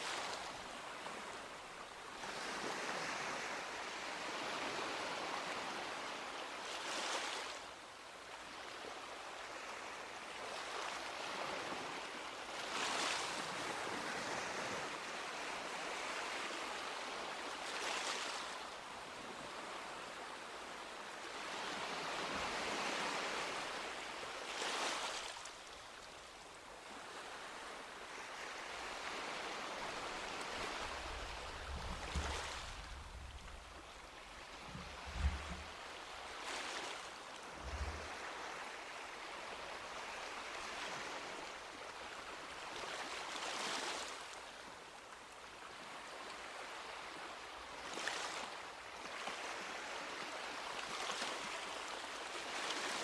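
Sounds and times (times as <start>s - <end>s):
waves breaking on a beach: 0.0s - 53.0s.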